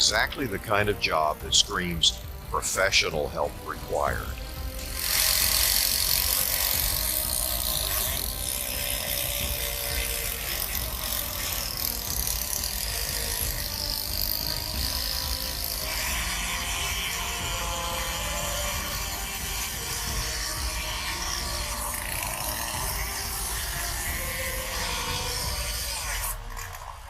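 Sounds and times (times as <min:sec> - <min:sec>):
chainsaw running with rattle: 0:00.0 - 0:27.0.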